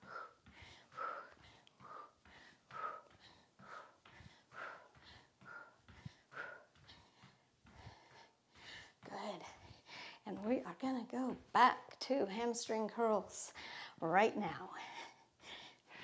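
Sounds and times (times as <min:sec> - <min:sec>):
woman breathing rhythmically: 0:00.0 - 0:10.6, 0:13.3 - 0:16.0.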